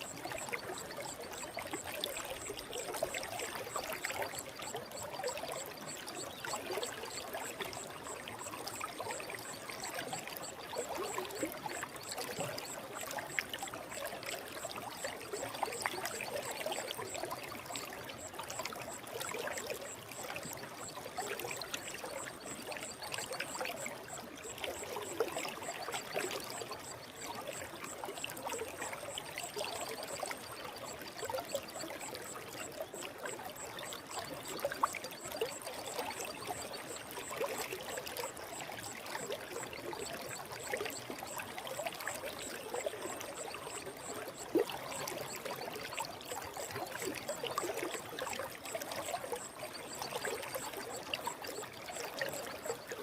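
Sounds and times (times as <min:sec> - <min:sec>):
stream water babbling: 0:00.0 - 0:53.0.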